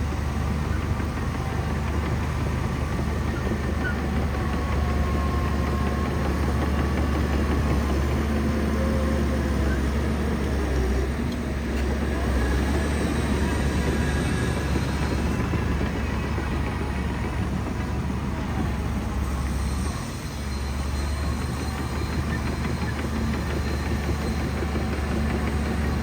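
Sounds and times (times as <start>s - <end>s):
bulldozer diesel engine rumbling: 0.0s - 26.0s.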